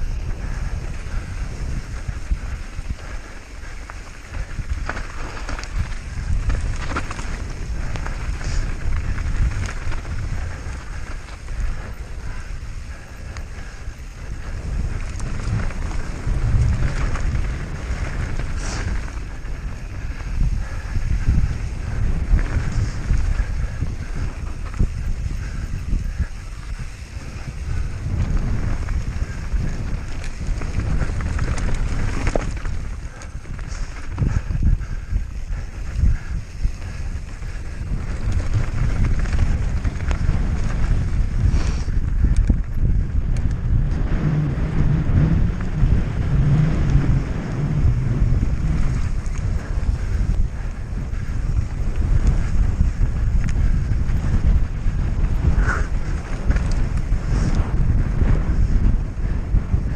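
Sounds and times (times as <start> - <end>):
bike rattling and clicking: 0.0 - 59.9
wind rushing over microphone: 0.0 - 59.9.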